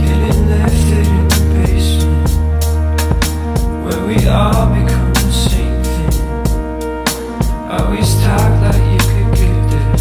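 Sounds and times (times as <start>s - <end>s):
dance song: 0.0s - 10.0s
deep sustained bass: 0.0s - 10.0s
steady drum beat: 0.0s - 10.0s.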